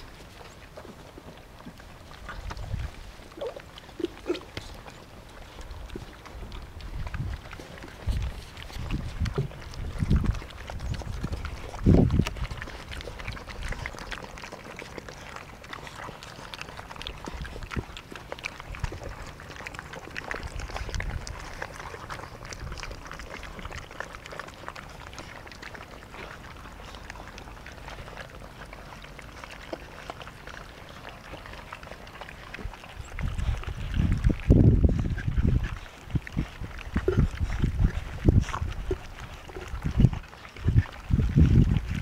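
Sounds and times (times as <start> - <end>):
puppies lapping and chewing: 0.0 - 42.0.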